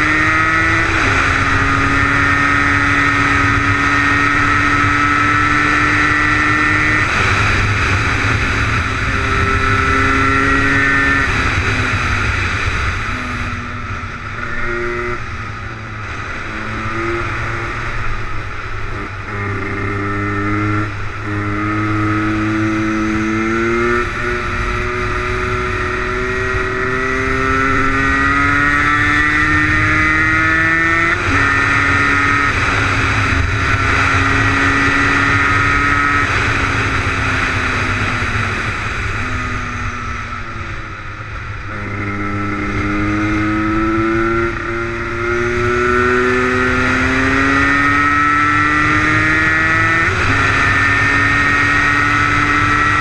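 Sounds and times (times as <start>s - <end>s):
two-stroke engine revving: 0.0s - 13.6s, 18.9s - 40.2s, 41.7s - 53.0s.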